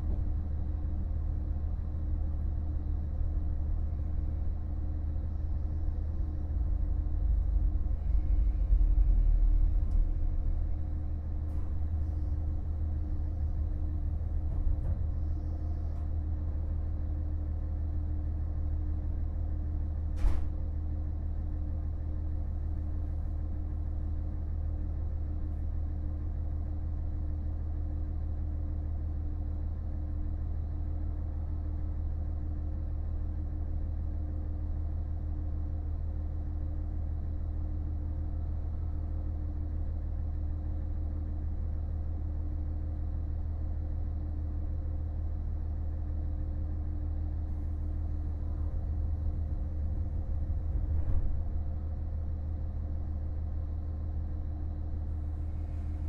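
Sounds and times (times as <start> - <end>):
diesel railcar engine rumbling: 0.0 - 56.0.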